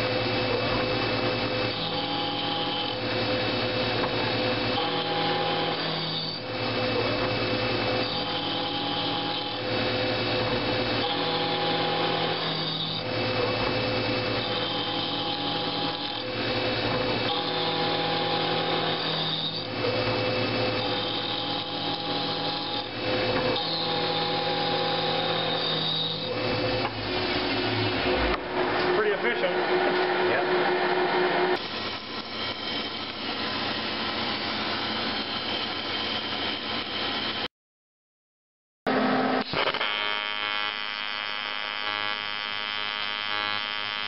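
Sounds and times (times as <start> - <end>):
milling machine cutting metal: 0.0 - 37.5, 38.9 - 44.0
pitched whine: 0.0 - 37.5, 38.9 - 44.0.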